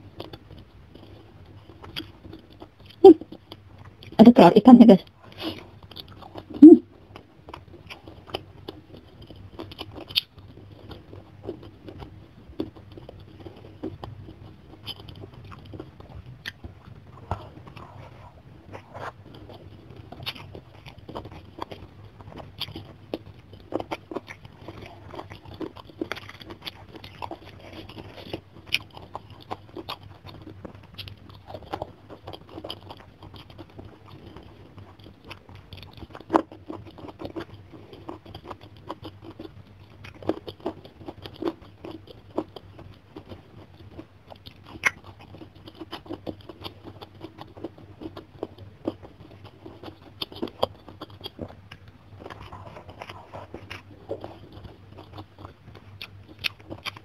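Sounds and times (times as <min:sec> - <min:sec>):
faint low hum: 0:00.0 - 0:57.0
wet chewing and lip smacks: 0:00.1 - 0:04.3, 0:04.9 - 0:57.0.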